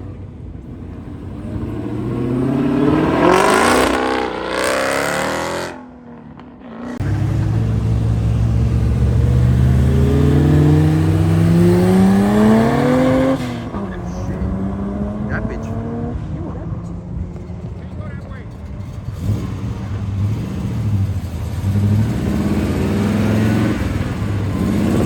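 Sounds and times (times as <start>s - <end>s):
car engine revving: 0.0s - 25.0s
engine climbing in pitch: 0.0s - 25.0s.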